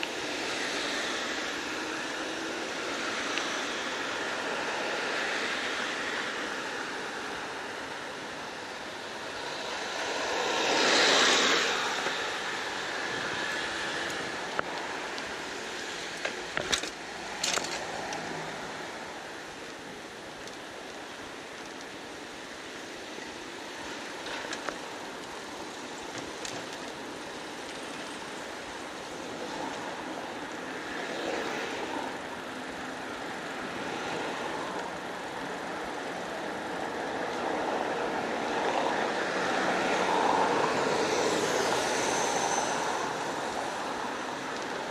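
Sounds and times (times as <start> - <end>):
city street traffic: 0.0 - 44.9.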